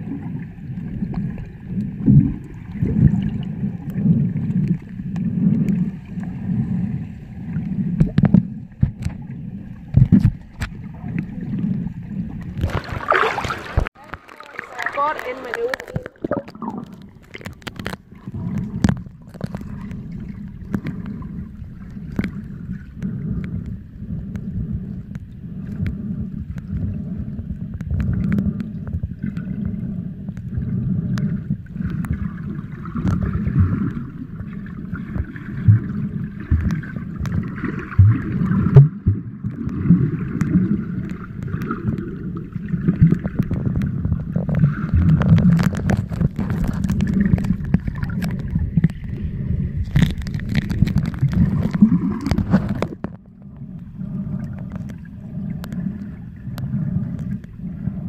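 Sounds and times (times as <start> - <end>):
bubbling from swimmer: 0.0 - 58.0
underwater rumble of moving water: 0.0 - 58.0.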